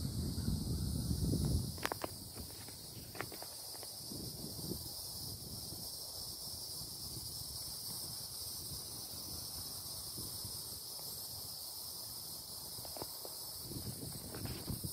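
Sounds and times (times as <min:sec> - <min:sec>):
crickets and cicadas chirring: 0:00.0 - 0:14.9.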